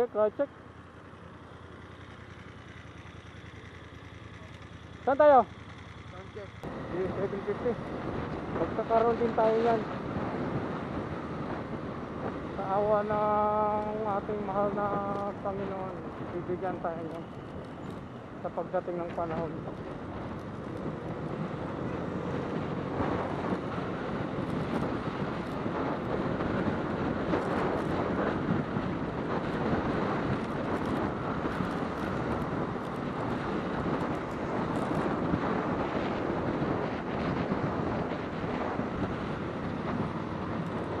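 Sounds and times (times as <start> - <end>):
motorcycle road and engine noise: 0.0 - 41.0
wind rushing over microphone: 6.6 - 41.0.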